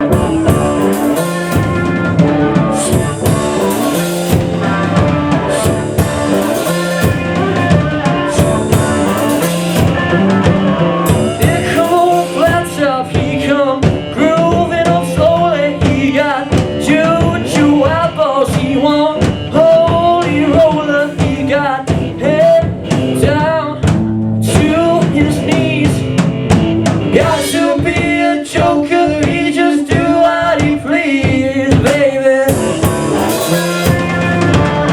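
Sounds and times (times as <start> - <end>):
lead singer singing: 0.0 - 34.9
rock band playing live: 0.0 - 34.9.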